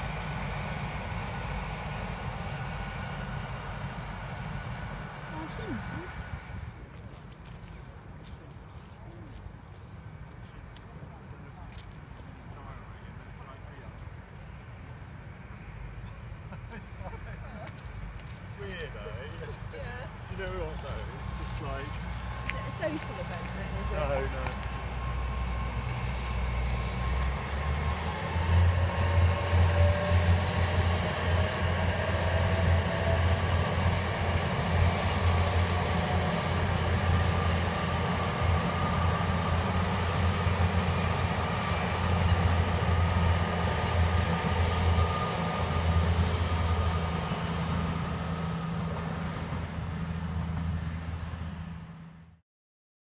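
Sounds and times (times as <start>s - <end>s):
train wheels rumbling on rails: 0.0s - 52.1s
high train whine: 0.0s - 52.4s.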